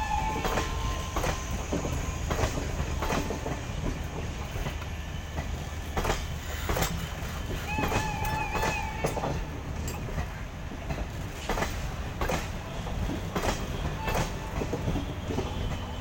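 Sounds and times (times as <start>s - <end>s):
train coaches rumbling: 0.0s - 16.0s
wheels clacking over rail joints: 0.0s - 16.0s.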